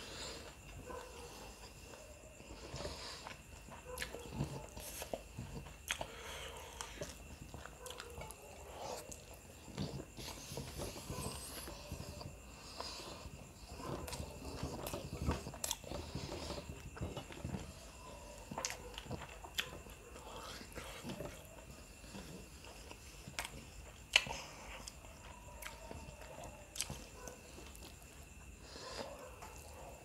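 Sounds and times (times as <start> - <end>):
close chewing: 0.0 - 30.0.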